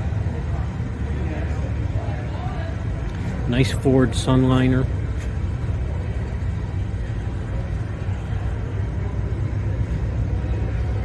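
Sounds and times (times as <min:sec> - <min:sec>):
low rumble of indoor crowd noise: 0:00.0 - 0:11.0.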